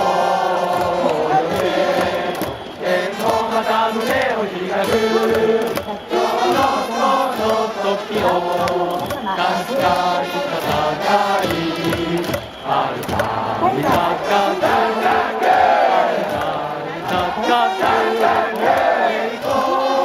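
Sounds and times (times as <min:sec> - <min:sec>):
crowd singing in unison: 0:00.0 - 0:20.0
music: 0:00.0 - 0:20.0.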